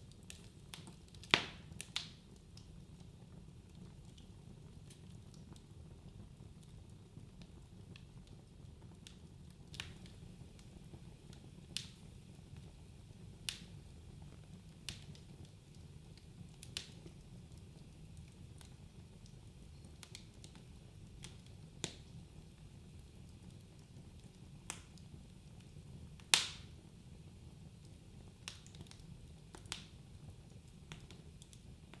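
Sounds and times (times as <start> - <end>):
burning logs crackling and popping: 0.0 - 32.0
low rumble of flames: 0.0 - 32.0.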